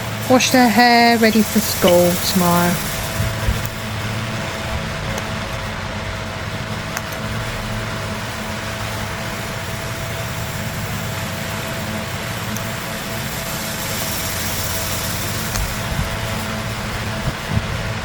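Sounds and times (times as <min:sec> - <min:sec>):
mechanical hum with high tone: 0:00.0 - 0:18.0.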